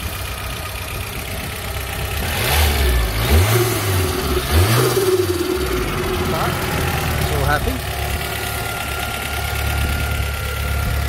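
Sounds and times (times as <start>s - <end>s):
car engine revving: 2.0s - 11.0s.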